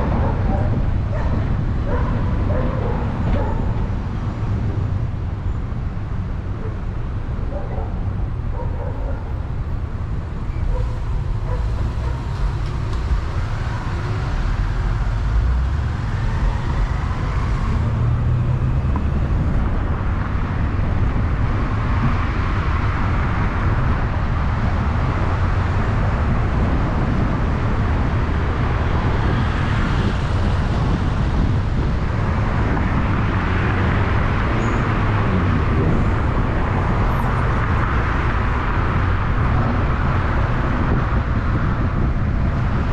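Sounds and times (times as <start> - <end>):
car driving on road: 0.0 - 42.9.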